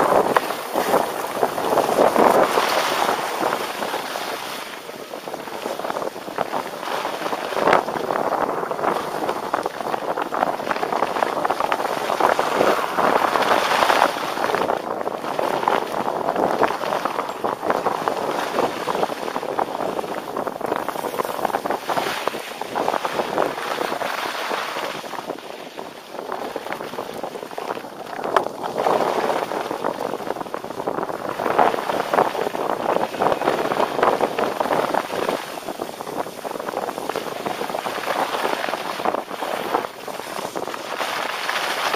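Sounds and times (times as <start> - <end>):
skis scraping over snow: 0.0 - 41.9
wind on microphone: 0.0 - 41.9.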